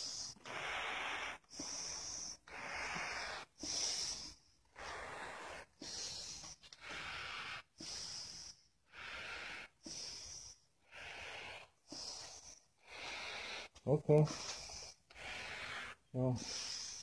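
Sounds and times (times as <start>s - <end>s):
heavy breathing into face mask: 0.0s - 17.0s.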